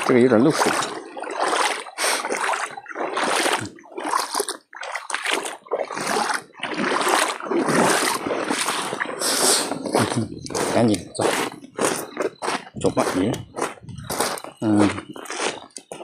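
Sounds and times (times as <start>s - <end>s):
footsteps wading through water: 0.0s - 16.0s.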